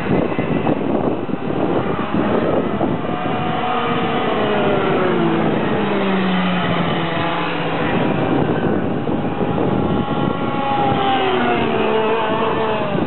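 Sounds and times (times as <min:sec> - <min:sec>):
racing kart engines: 0:00.0 - 0:13.0.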